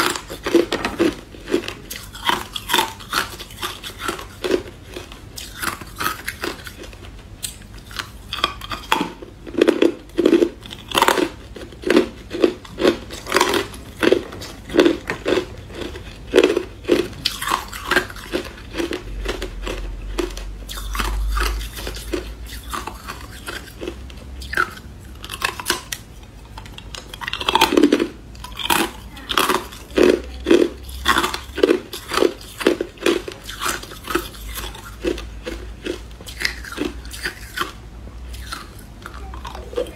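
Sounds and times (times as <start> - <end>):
ice chunks crunching in mouth: 0.0 - 39.9.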